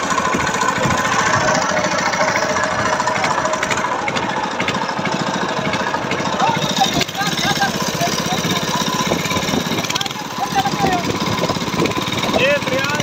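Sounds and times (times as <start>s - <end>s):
diesel engine knocking: 0.0s - 13.0s.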